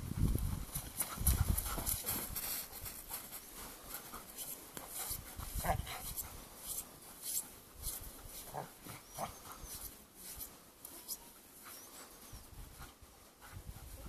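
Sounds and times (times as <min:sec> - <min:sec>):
footsteps crunching in snow: 0:00.2 - 0:13.6.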